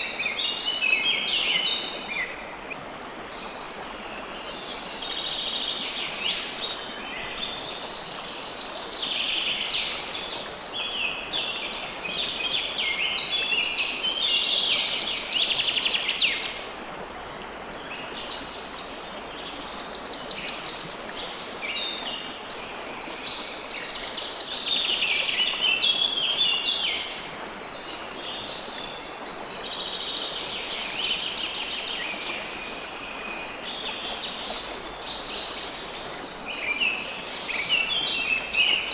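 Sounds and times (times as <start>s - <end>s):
running water hiss: 0.0s - 38.9s.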